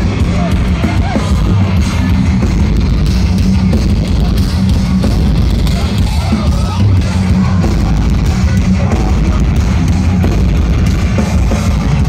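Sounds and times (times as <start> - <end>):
heavy metal band playing live: 0.0 - 12.0.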